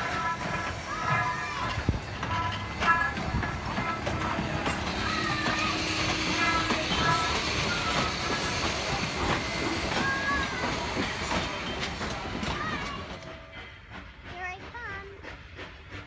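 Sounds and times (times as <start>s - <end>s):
steam hissing: 0.0s - 16.0s
wheels clicking over rail joints: 0.0s - 16.0s.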